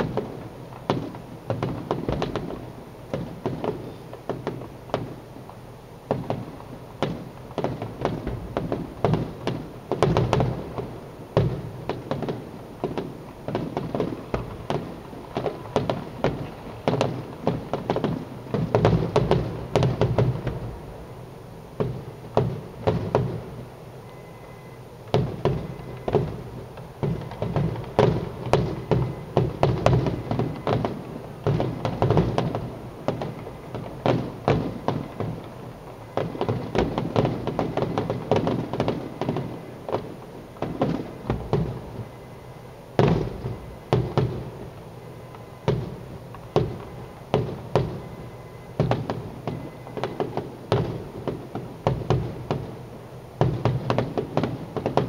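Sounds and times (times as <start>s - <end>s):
fireworks bangs and booms: 0.0s - 55.0s.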